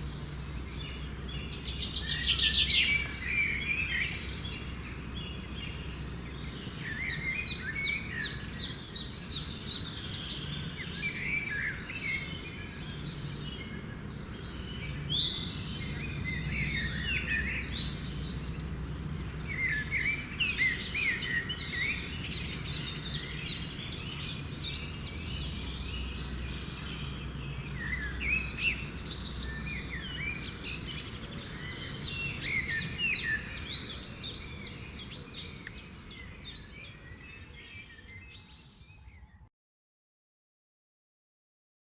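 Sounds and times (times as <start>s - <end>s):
birds chirping and trilling: 0.0s - 39.5s.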